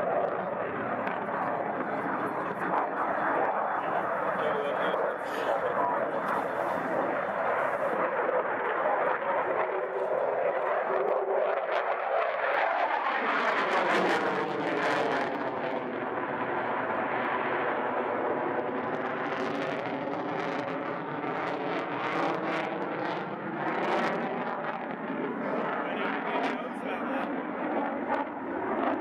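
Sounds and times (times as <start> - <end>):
fighter jet flying overhead: 0.0 - 29.0.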